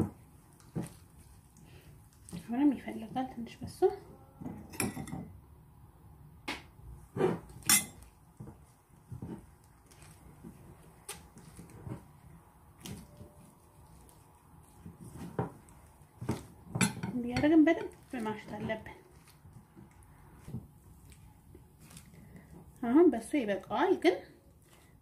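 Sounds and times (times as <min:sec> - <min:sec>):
hands kneading dough in bowl: 0:00.0 - 0:04.8, 0:06.7 - 0:25.0.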